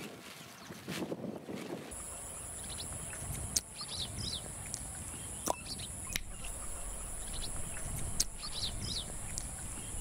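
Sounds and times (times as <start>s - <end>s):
small birds chirping: 2.0s - 10.0s.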